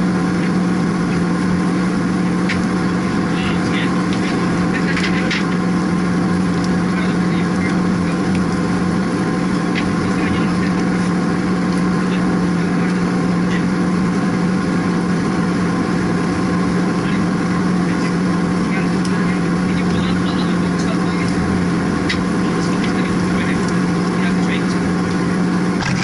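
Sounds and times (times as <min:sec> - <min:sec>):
machinery drone with low hum: 0:00.0 - 0:26.0.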